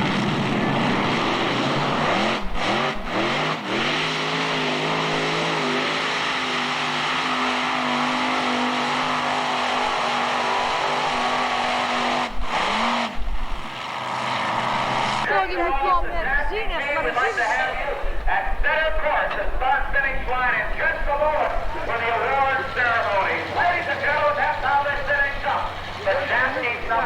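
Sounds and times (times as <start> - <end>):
pulling tractor engine running flat out: 0.0 - 27.0.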